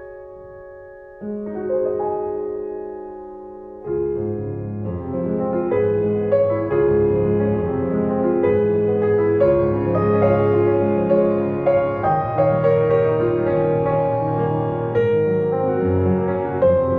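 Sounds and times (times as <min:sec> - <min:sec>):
piano chords: 0:00.0 - 0:16.9.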